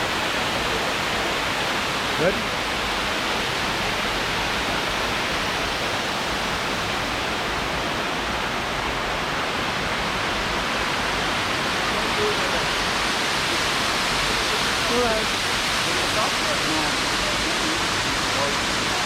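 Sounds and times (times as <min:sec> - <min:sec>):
waterfall pouring into pond: 0:00.0 - 0:19.0.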